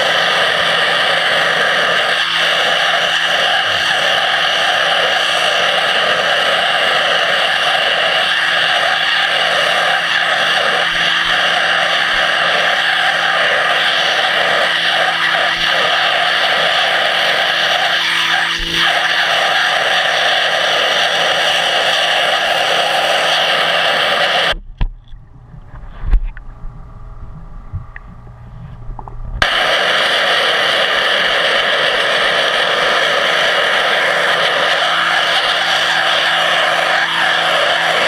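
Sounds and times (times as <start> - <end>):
underwater pressure-washer jet hissing: 0.0 - 24.7, 29.0 - 38.0
low hum: 0.0 - 38.0.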